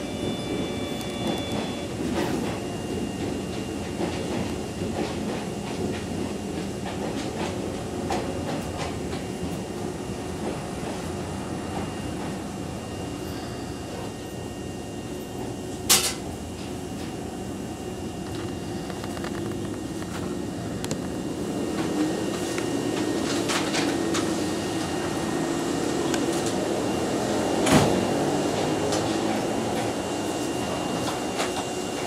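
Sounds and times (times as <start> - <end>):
electric train hum: 0.0 - 32.0.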